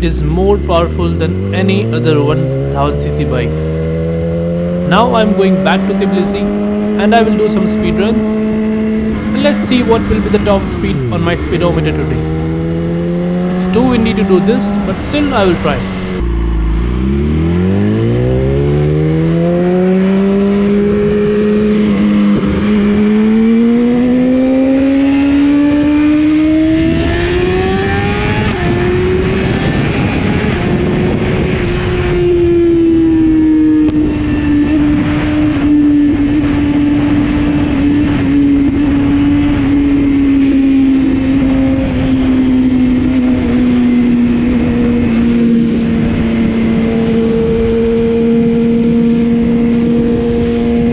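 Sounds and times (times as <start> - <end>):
motorcycle engine accelerating hard: 0.0 - 50.9
wind rushing over microphone: 4.8 - 50.9.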